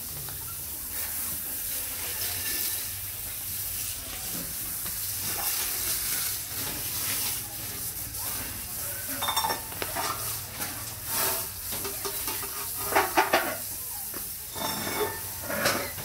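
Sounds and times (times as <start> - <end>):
hose spraying water on concrete: 0.0 - 16.0.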